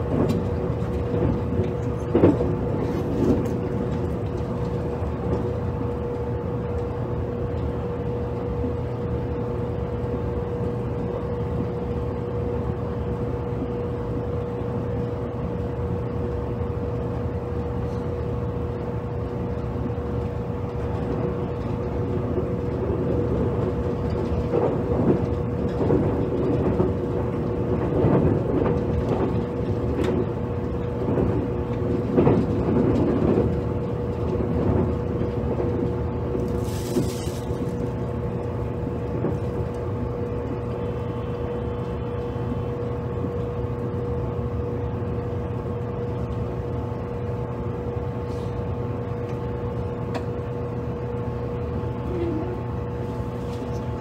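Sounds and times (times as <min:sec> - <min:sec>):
steady motor hum: 0:00.0 - 0:54.0
train wheels rumbling on track: 0:00.0 - 0:54.0.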